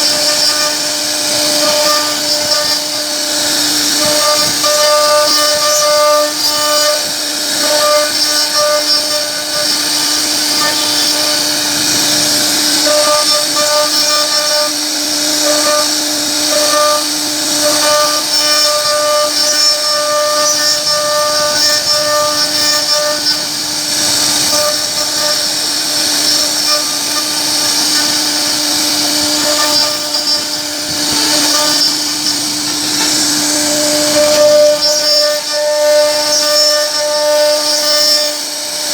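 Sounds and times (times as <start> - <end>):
router spindle whine cutting wood: 0.0 - 38.9.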